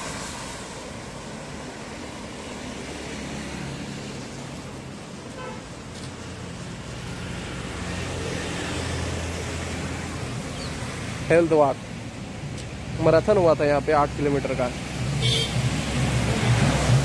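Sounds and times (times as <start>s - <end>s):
road traffic engine hum: 0.0s - 17.0s.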